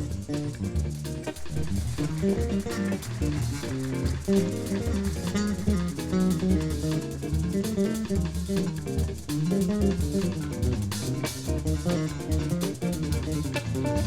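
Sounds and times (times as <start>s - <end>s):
electric bass melodic line: 0.0s - 14.0s
live band music: 0.0s - 14.0s.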